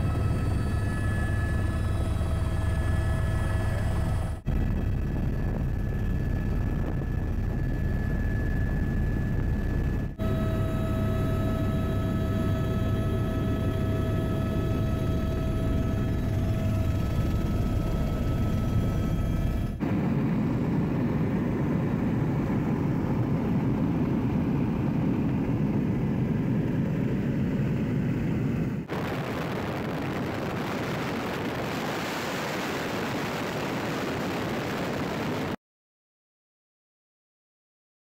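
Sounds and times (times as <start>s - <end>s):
helicopter turbine and rotor drone: 0.0s - 35.6s.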